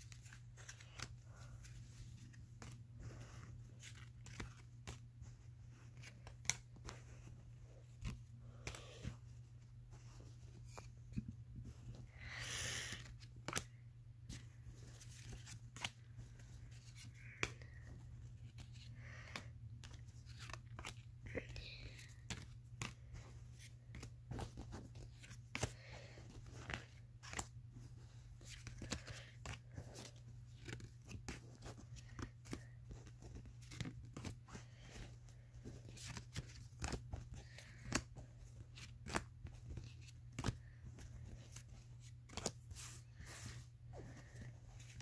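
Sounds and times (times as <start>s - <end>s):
cards snapping and rustling: 0.0s - 9.2s, 12.2s - 45.0s.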